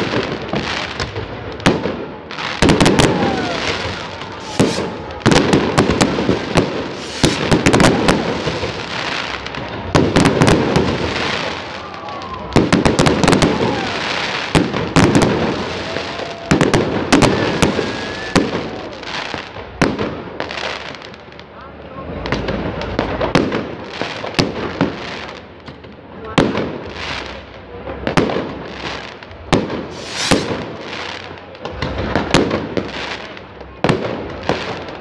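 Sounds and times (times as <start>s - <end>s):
fireworks bangs: 0.0s - 21.3s, 22.0s - 35.0s
fireworks crackling: 0.0s - 35.0s.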